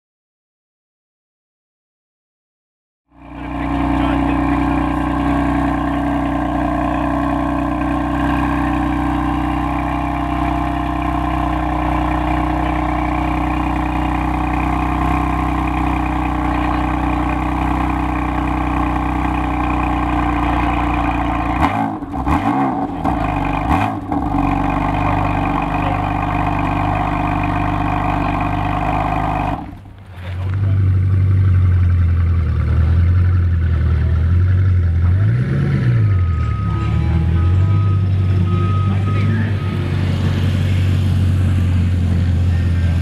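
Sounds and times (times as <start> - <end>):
car engine idling and revving: 3.1 - 43.0.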